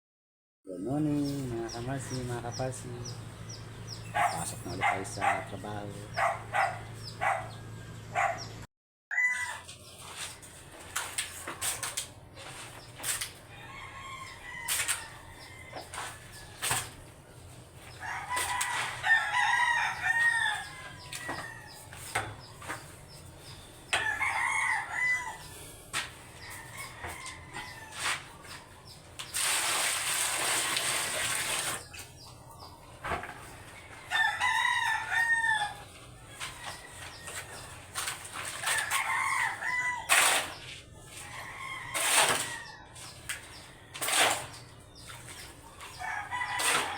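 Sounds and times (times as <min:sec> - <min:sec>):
roosters crowing: 0:01.1 - 0:46.9.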